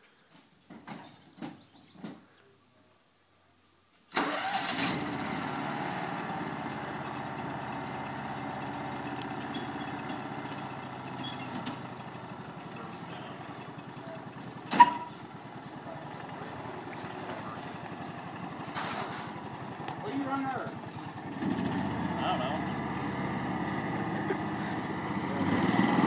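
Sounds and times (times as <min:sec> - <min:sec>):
utility vehicle engine idling: 0:04.2 - 0:26.0.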